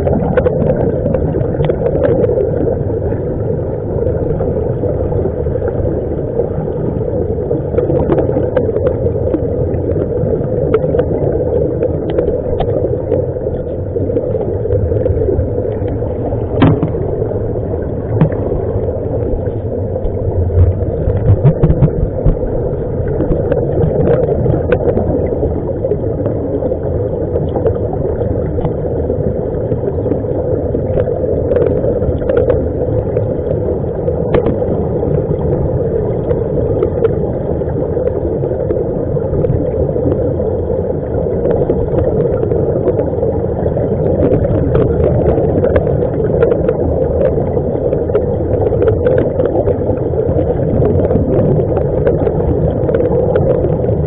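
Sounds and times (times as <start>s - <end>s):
underwater air bubbles rushing: 0.0s - 54.0s.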